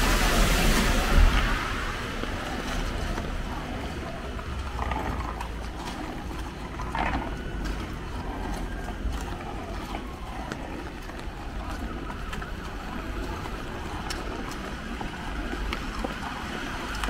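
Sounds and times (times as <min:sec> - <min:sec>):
passing vehicle: 0:00.0 - 0:17.0
traffic rumble: 0:00.0 - 0:17.0.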